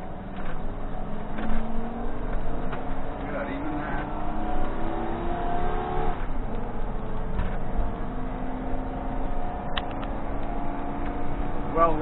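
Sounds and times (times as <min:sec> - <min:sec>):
motorhome engine and road noise: 0:00.0 - 0:12.0.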